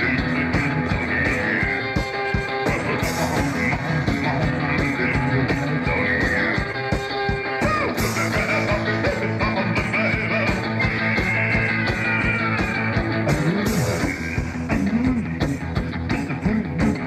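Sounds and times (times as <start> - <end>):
rock song electric guitar: 0.0 - 17.0.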